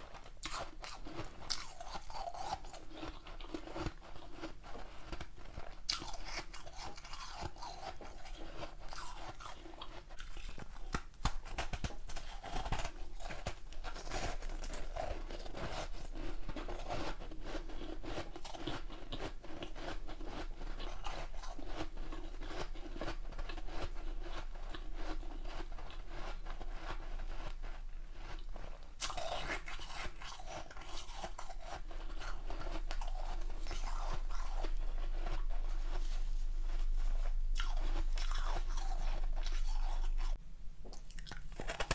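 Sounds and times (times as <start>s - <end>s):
crunching and chewing ice: 0.0s - 41.9s.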